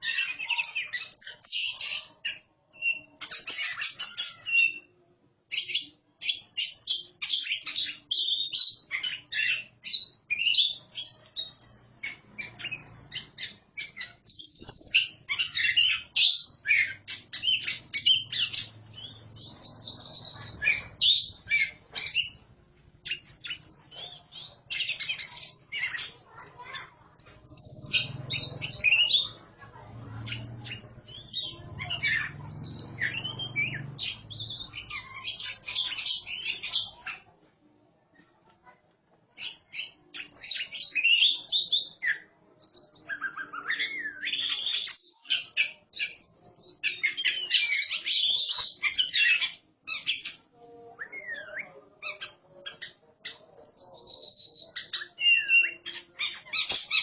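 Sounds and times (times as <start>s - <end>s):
songbirds whistling and chattering: 0.0s - 37.4s, 39.3s - 57.0s.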